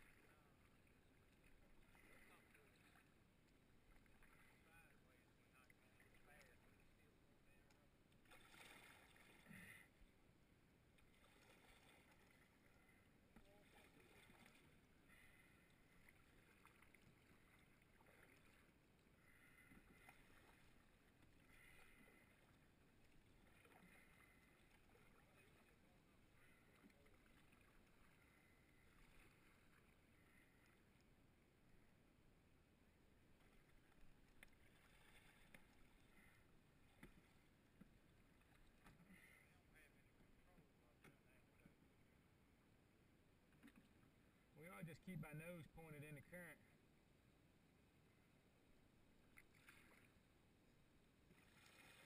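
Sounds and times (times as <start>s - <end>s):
paddle splashing in water: 0.0s - 10.1s, 10.8s - 31.8s, 33.0s - 41.8s, 43.5s - 44.2s, 49.2s - 50.6s, 51.2s - 52.0s.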